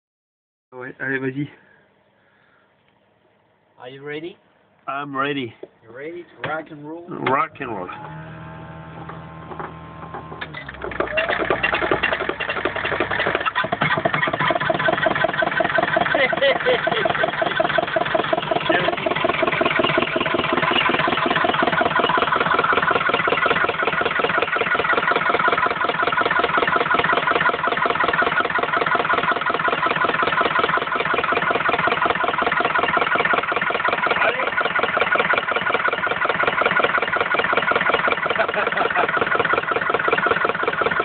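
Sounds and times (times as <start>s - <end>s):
engine idling: 7.3s - 41.0s.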